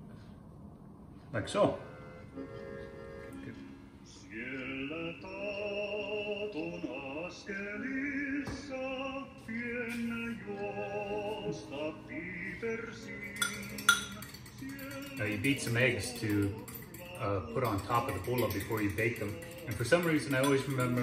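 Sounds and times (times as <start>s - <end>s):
man singing: 4.2s - 21.0s.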